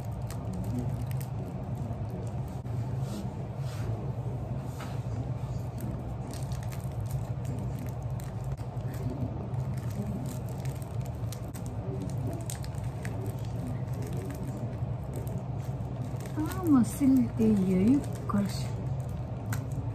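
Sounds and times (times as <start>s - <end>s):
plastic crinkling: 0.0s - 2.6s, 5.5s - 19.9s
steady low hum: 0.0s - 19.9s.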